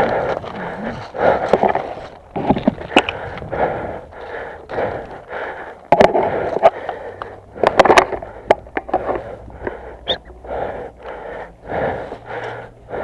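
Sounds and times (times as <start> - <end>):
hard breathing: 0.0 - 13.0.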